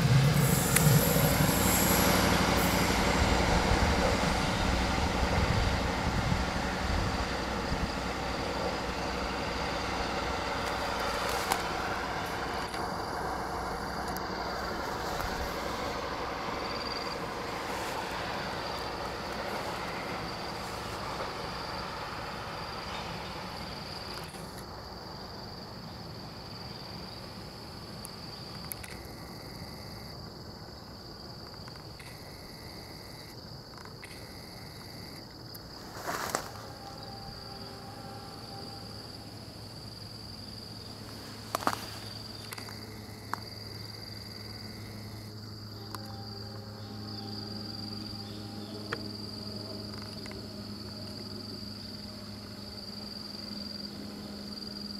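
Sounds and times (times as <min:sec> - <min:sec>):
low steady hum: 0:00.0 - 0:30.1, 0:34.0 - 0:54.9
insects trilling: 0:00.0 - 0:54.9
train rumble: 0:00.0 - 0:54.9.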